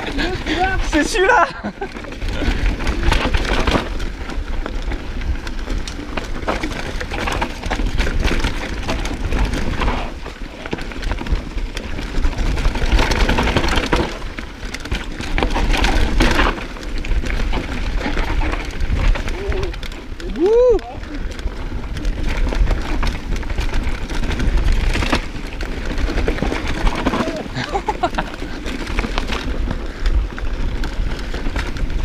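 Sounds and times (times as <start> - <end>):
bike rattling: 0.0 - 32.0
tyres crunching over dirt: 0.0 - 32.0.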